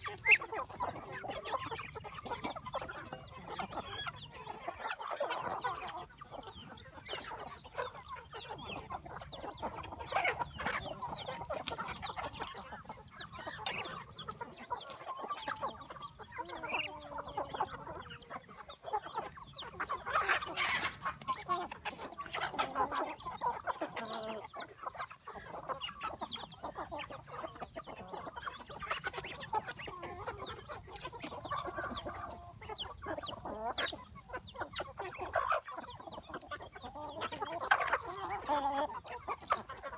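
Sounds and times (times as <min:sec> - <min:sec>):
chickens clucking: 0:00.0 - 0:39.9
drawn-out chicken calls: 0:00.0 - 0:39.9.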